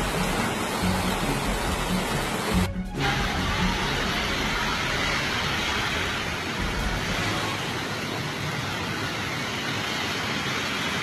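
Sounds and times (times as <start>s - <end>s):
heavy rain on street: 0.0s - 11.0s
vehicles driving through water: 0.0s - 11.0s.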